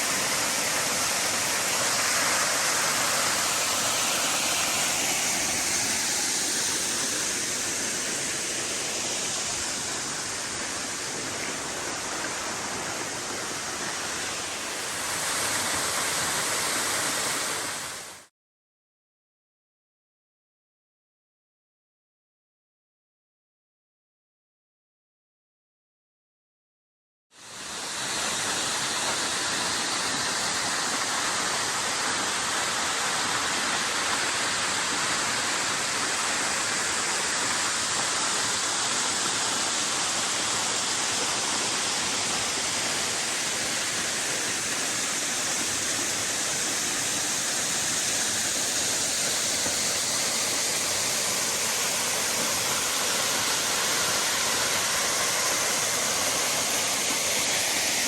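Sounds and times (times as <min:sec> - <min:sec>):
waterfall roaring: 0:00.0 - 0:18.2, 0:27.6 - 0:58.0.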